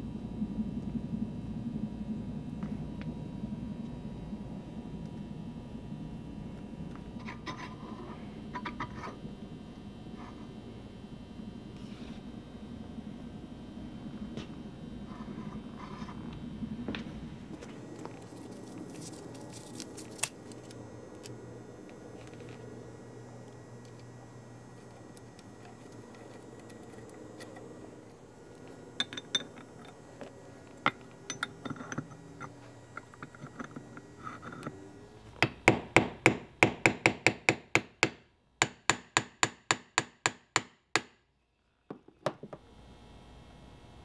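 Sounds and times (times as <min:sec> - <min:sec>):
low steady hum: 0:00.0 - 0:39.6, 0:41.2 - 0:44.0.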